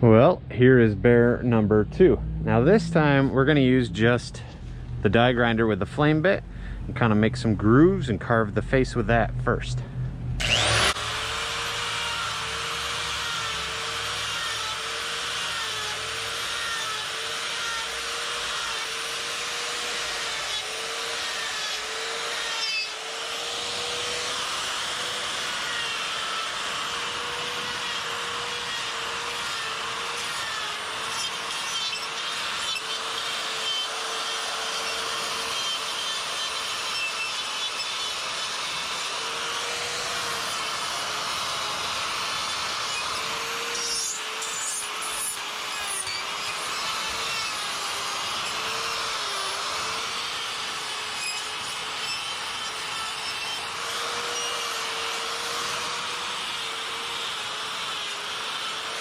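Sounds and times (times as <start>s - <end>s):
burr grinding wood: 0.0s - 59.0s
die grinder whining: 10.2s - 59.0s.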